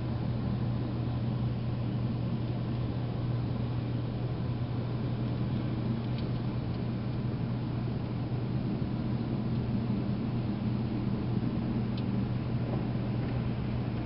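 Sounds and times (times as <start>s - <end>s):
blizzard wind: 0.0s - 14.0s.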